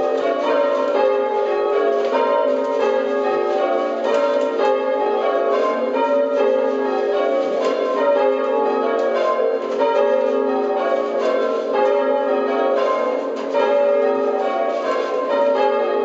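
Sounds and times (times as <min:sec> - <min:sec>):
church bells ringing in rounds: 0:00.0 - 0:16.0.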